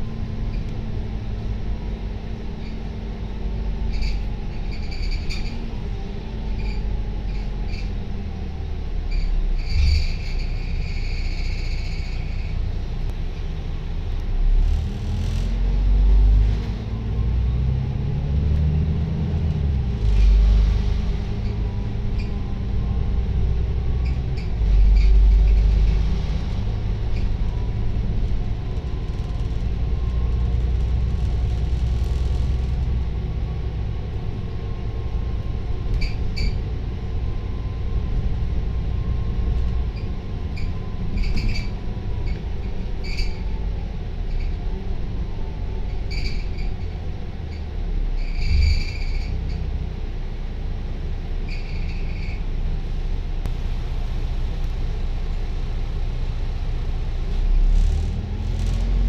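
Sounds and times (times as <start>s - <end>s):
bus engine rumble: 0.0s - 59.0s
road noise: 0.0s - 59.0s.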